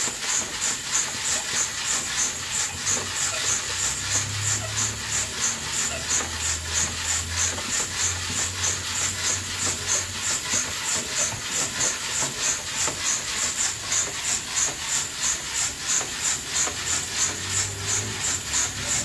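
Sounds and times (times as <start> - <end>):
coffee beans tumbling in roaster: 0.0 - 19.0.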